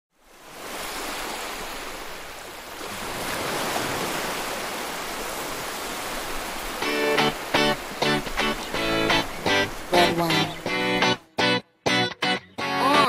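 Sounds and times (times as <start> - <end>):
waves breaking on beach: 0.1 - 11.2.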